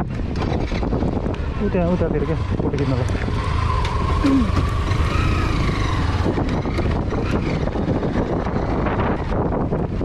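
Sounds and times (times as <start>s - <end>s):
engine running with whine: 0.0s - 10.0s.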